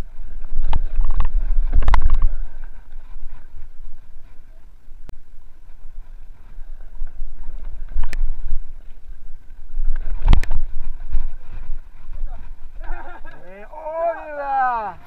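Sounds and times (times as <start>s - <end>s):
bike tyres rolling rumble: 0.0s - 15.0s
wind on camera: 0.0s - 15.0s.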